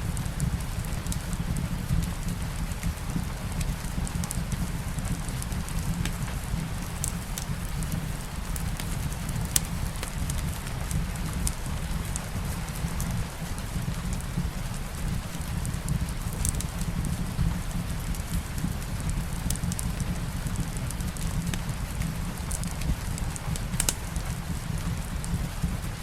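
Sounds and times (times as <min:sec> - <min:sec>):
soft rain: 0:00.0 - 0:26.0
fireplace crackling: 0:00.1 - 0:26.0.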